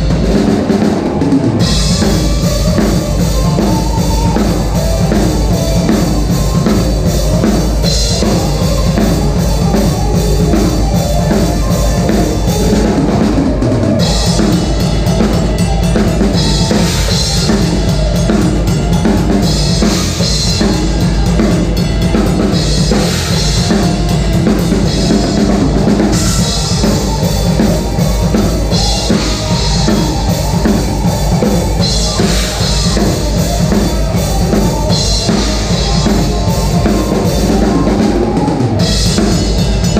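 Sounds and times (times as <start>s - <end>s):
bass drum and snare beat: 0.0s - 39.9s
music with drum kit: 0.0s - 39.9s.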